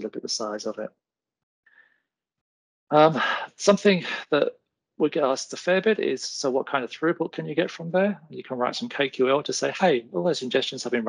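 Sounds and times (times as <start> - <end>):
person speaking: 0.0 - 0.9, 2.9 - 11.0.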